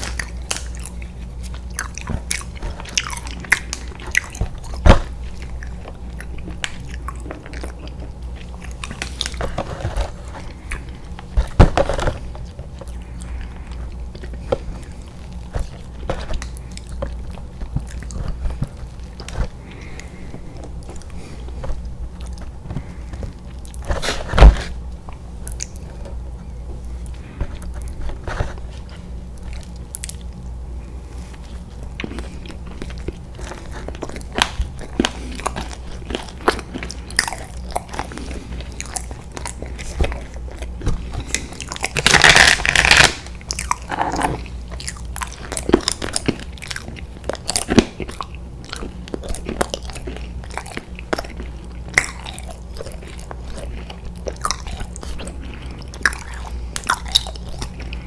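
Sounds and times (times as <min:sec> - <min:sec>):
chewing candy crunches: 0:00.0 - 0:30.6, 0:31.2 - 0:58.0.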